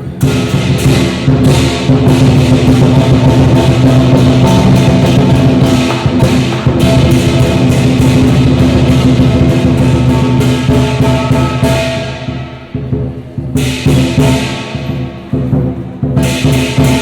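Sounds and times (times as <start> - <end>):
gongs ringing: 0.0 - 15.5
big drum beaten fast: 0.0 - 17.0
cymbals clashing: 0.0 - 17.0.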